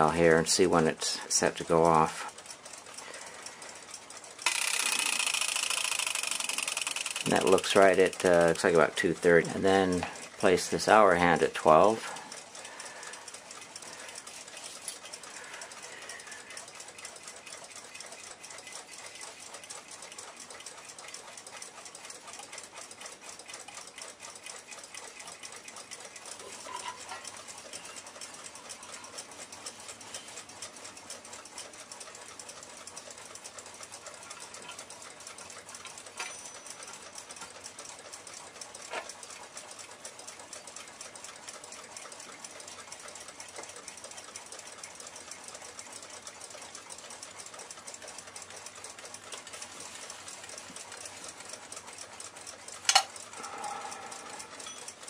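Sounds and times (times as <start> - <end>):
clock ticking rapidly: 0.0 - 55.0.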